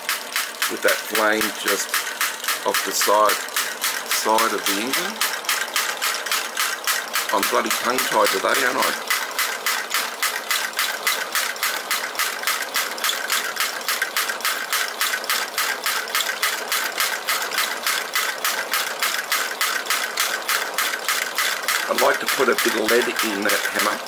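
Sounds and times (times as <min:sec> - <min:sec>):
gas burner roar: 0:00.0 - 0:24.0.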